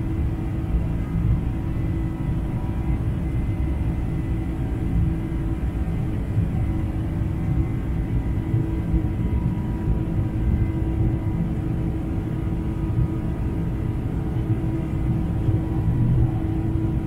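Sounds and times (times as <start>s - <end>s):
faint whining tones: 0.0s - 17.0s
jet engine low rumble: 0.0s - 17.0s.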